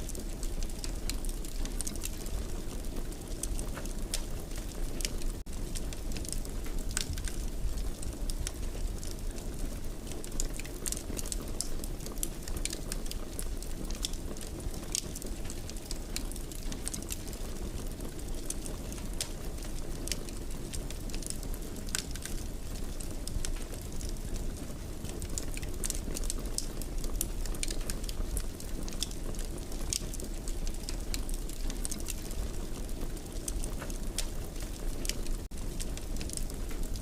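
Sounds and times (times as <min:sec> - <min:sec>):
fire burning in a fireplace: 0:00.0 - 0:37.0
fire crackles and pops: 0:00.0 - 0:37.0.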